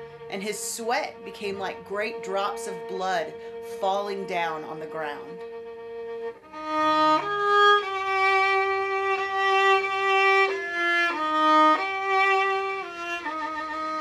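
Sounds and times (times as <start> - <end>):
solo violin melody: 0.0 - 14.0.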